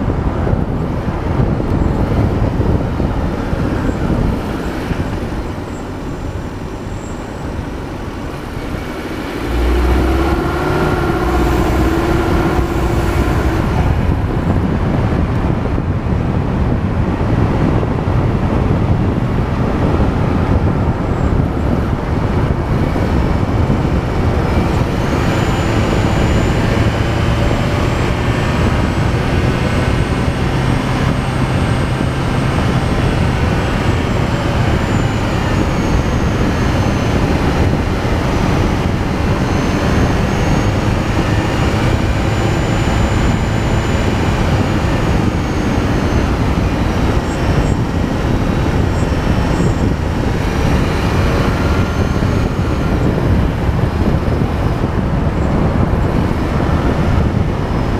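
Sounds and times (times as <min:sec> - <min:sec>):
low hum: 0:00.0 - 0:57.9
wind and road noise: 0:00.0 - 0:57.9.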